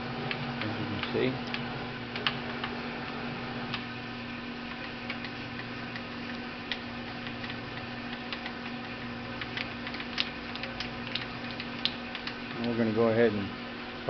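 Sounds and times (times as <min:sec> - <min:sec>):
machine electrical hum: 0:00.0 - 0:14.0.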